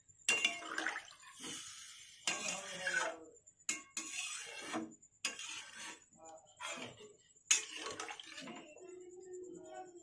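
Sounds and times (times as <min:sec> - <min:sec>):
spatula scraping in a pot: 0:00.3 - 0:08.8.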